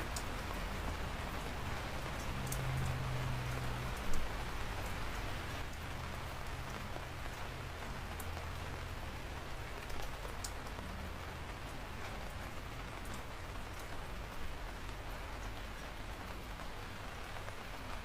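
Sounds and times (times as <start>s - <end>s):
raindrops ticking: 0.0s - 18.0s
steady rain falling: 0.0s - 18.0s.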